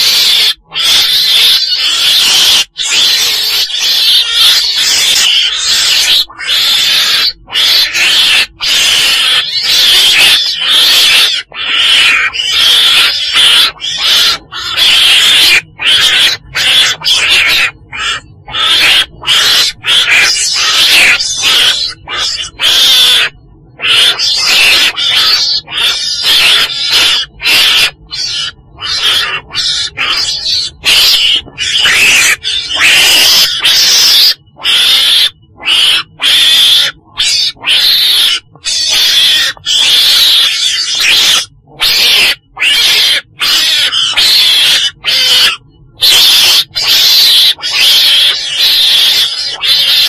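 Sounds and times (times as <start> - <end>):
weasel squealing: 0.0 - 50.0.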